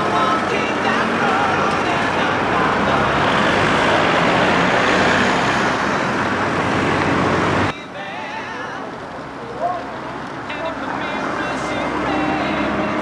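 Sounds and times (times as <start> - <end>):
motor vehicle running close by: 0.0 - 7.7, 9.8 - 13.0.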